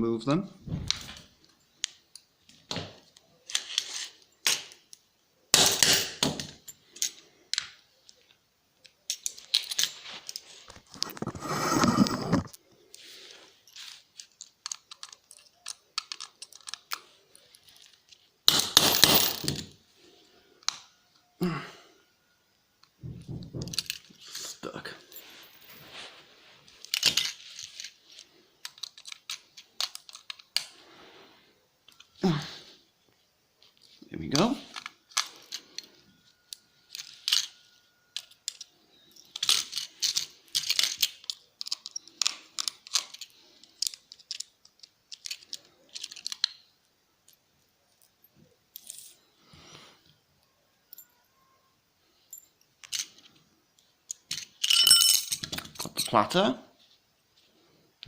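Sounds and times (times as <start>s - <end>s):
small metal parts clinking: 0.9s - 11.4s, 12.5s - 21.3s, 22.0s - 26.0s, 26.6s - 30.8s, 33.6s - 49.4s, 50.7s - 56.2s.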